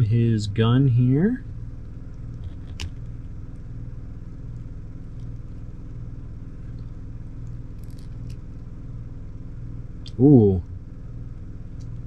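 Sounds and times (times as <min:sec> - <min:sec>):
low pulsing mechanical hum: 0:00.0 - 0:12.0.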